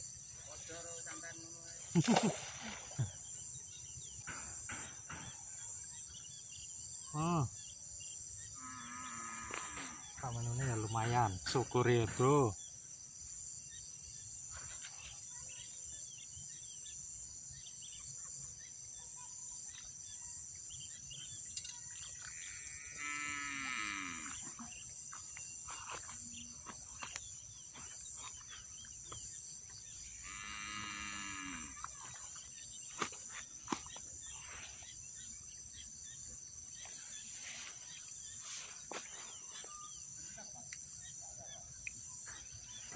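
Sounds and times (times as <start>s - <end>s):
high-pitched insect chorus: 0.0s - 42.9s.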